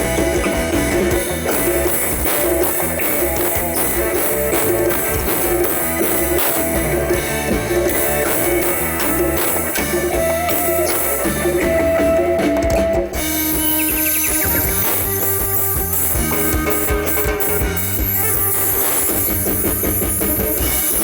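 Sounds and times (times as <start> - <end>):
drum kit beat: 0.0 - 21.0
guitar: 0.0 - 21.0.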